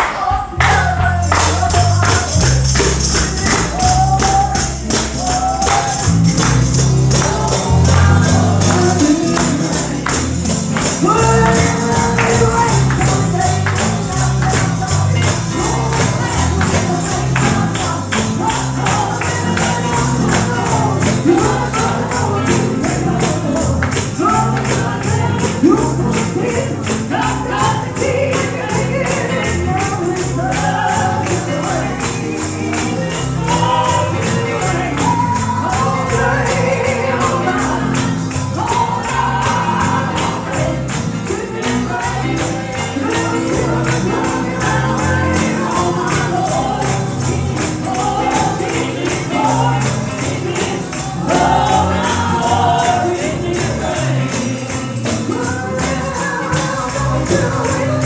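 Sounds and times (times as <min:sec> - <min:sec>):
person singing: 0:00.0 - 0:58.0
tambourine shaken on a beat: 0:00.0 - 0:58.0
bass line: 0:00.3 - 0:58.0.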